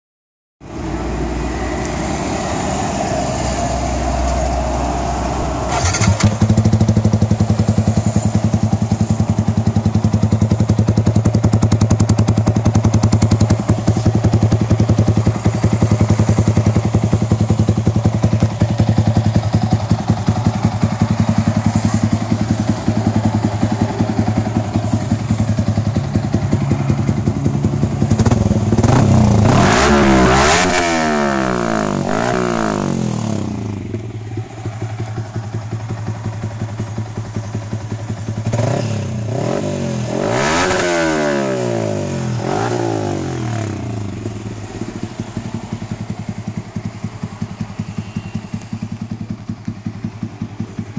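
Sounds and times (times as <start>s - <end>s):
motorcycle engine idling: 5.7s - 30.6s, 31.4s - 40.2s, 41.7s - 50.9s.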